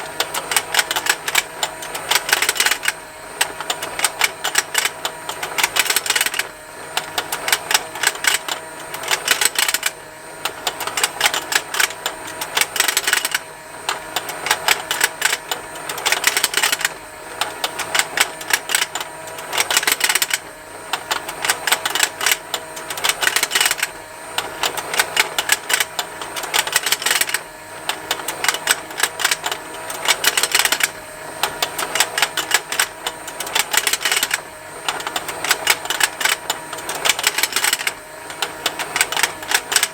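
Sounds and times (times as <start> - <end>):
toy motor ticking: 0.0 - 39.9.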